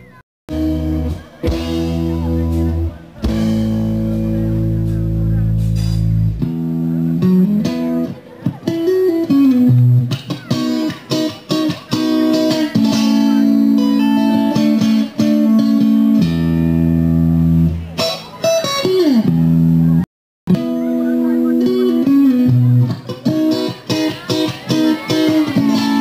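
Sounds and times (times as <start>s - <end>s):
bass guitar: 0.0s - 26.0s
electric guitar: 0.5s - 26.0s.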